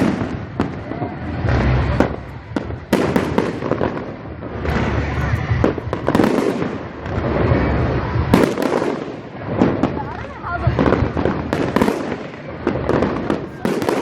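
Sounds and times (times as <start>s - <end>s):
fireworks bangs and cracks: 0.0s - 14.0s
fireworks crackling: 0.0s - 14.0s
low booming: 0.0s - 14.0s.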